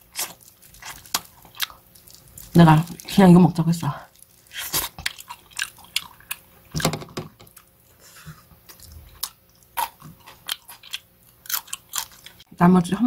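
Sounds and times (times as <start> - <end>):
person chewing meat: 0.0 - 3.1, 4.1 - 6.9, 7.5 - 12.5.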